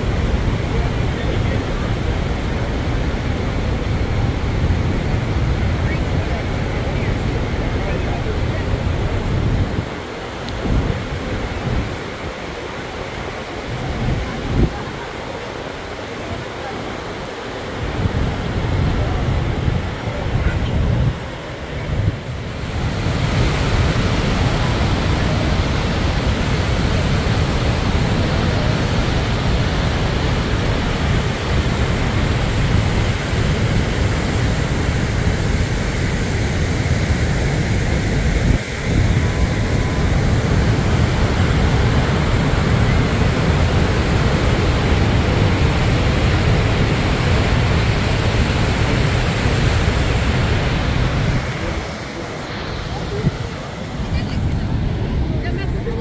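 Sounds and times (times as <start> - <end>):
wind buffeting microphone: 0.0 - 15.2, 17.7 - 56.0
waterfall roaring: 0.0 - 56.0.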